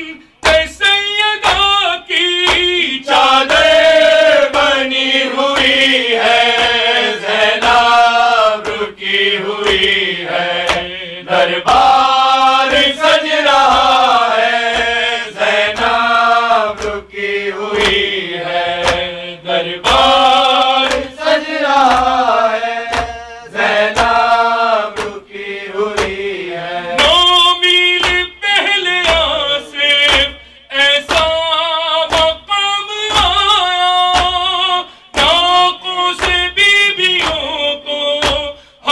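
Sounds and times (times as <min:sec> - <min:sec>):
man chanting into a microphone: 0:00.0 - 0:38.9.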